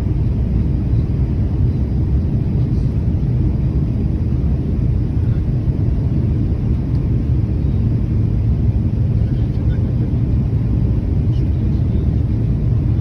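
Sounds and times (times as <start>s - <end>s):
jet cabin rumble: 0.0s - 13.0s.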